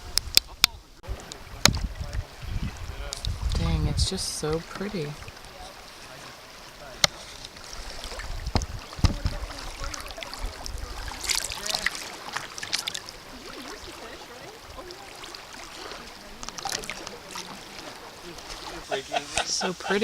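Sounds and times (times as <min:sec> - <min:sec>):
river trickle: 0:00.0 - 0:18.9
paddle splashing water: 0:00.3 - 0:20.0.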